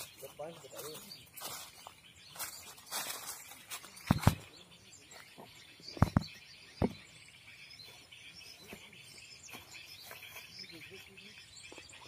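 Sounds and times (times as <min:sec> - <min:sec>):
forest birds chirping: 0:00.0 - 0:12.0.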